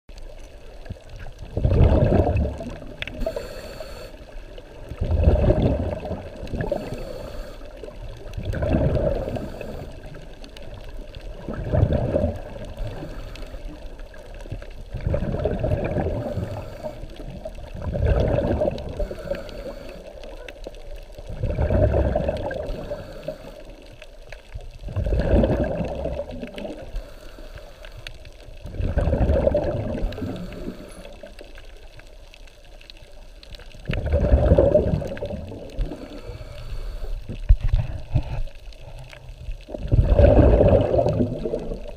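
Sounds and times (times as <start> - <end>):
underwater breath bubbles gurgling: 0.1 - 41.9.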